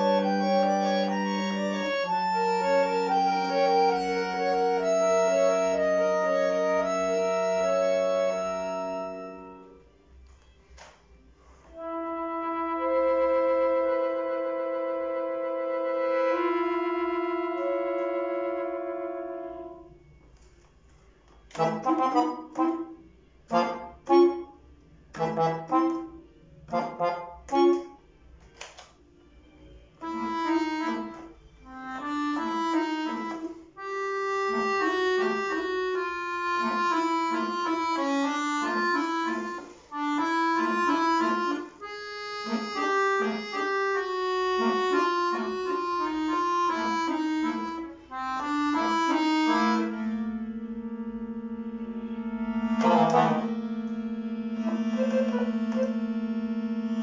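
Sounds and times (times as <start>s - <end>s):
piano accordion playing: 0.0s - 10.4s, 11.4s - 20.2s, 21.3s - 28.8s, 29.9s - 57.0s.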